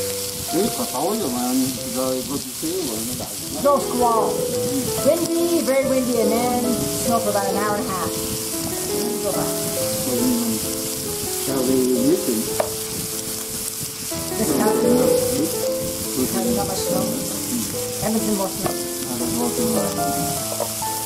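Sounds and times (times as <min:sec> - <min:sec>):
meat sizzling on grill: 0:00.0 - 0:21.0
music playing: 0:00.0 - 0:21.0.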